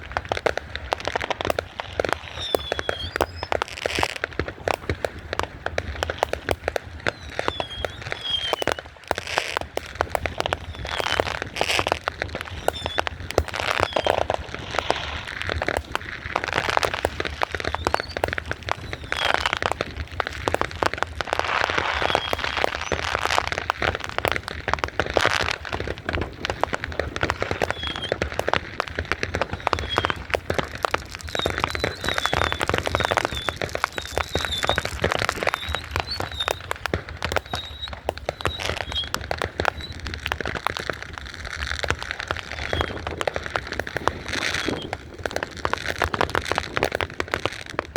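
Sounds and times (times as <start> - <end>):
firework whistles: 0.0 - 47.8
fireworks crackling and popping: 0.0 - 47.9.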